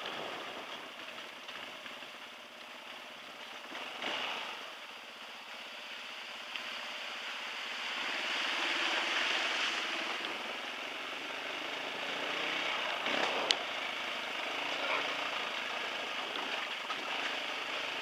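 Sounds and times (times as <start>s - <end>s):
dirt bike engine running low: 0.0s - 18.0s
wind and tyre noise: 0.0s - 18.0s.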